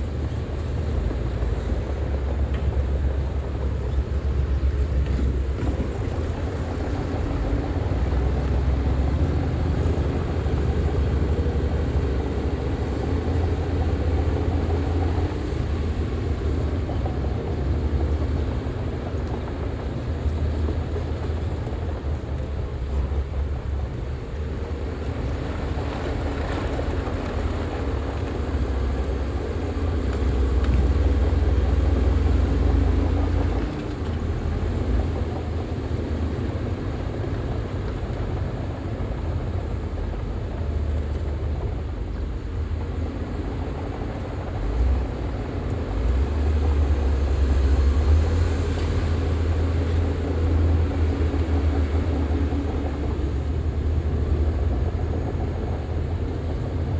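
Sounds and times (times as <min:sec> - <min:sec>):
heavy machine diesel engine running: 0:00.0 - 0:56.9.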